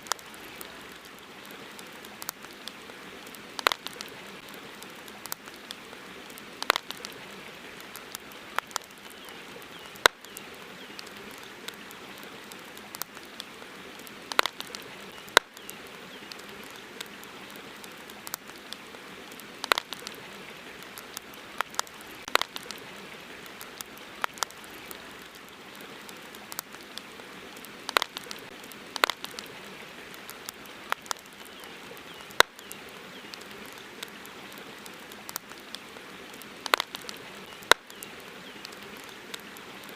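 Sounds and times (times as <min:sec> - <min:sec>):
campfire crackling and popping: 0:00.0 - 0:39.9
steady background hiss: 0:00.0 - 0:39.9.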